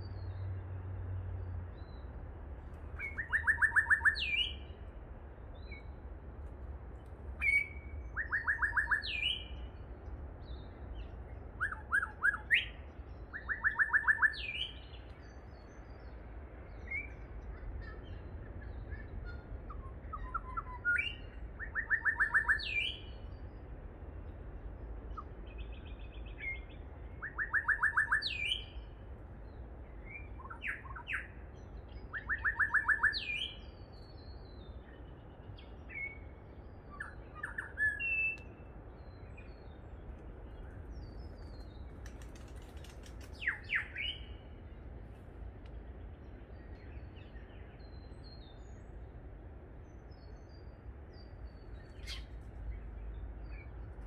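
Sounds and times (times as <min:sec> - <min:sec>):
bird song with whistled notes: 0:01.7 - 0:02.1, 0:03.0 - 0:04.9, 0:05.5 - 0:06.0, 0:07.4 - 0:23.7, 0:25.1 - 0:44.8, 0:46.0 - 0:49.2, 0:49.8 - 0:53.8.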